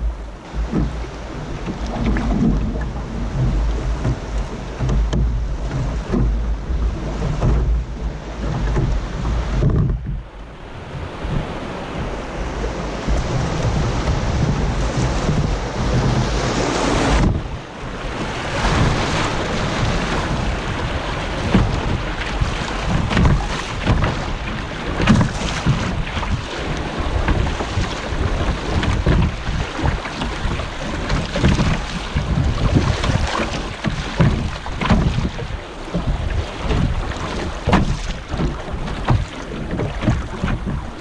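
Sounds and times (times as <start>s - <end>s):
river water rushing: 0.0s - 41.0s
wind buffeting microphone: 0.0s - 41.0s.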